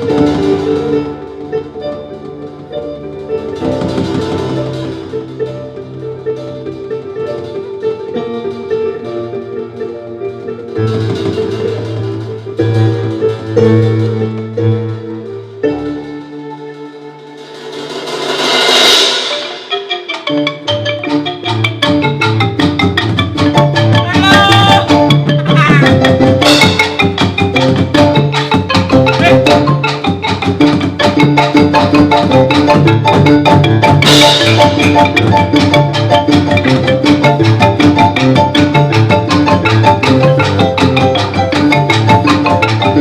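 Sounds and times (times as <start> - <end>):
mallet percussion music with drums: 0.0 - 43.0.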